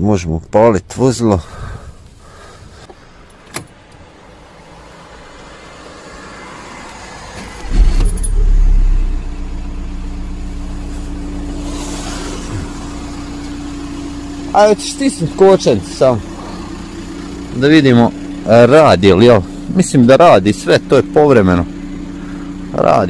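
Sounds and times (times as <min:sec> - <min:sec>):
diesel engine idling: 0:01.4 - 0:23.0.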